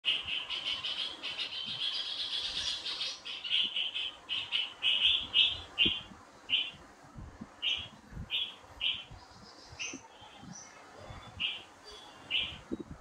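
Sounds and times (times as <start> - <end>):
bird chirping: 0.0 - 6.8, 7.6 - 13.0.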